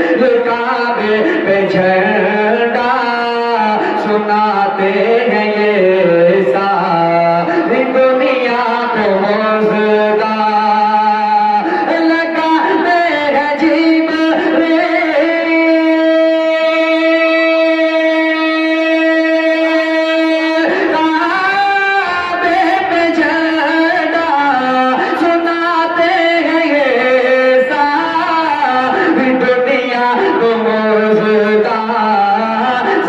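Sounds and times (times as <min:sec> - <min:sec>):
person singing devotional song: 0:00.0 - 0:33.0.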